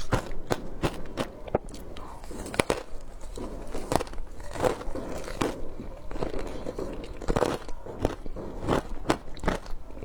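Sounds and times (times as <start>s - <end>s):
teeth crunching frozen ice: 0.0s - 10.0s.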